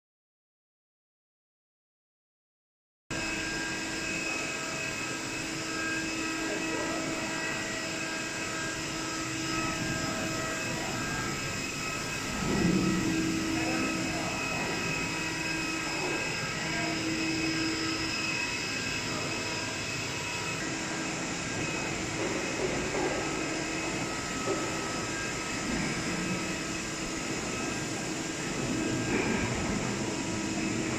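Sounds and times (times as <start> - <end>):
air compressor whining: 3.1 - 30.9.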